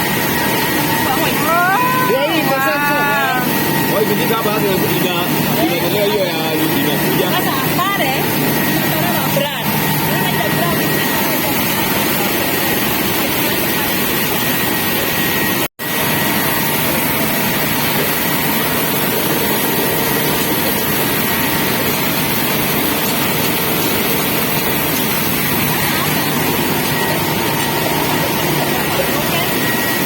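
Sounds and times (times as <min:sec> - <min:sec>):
rice mill machinery running: 0:00.0 - 0:30.0.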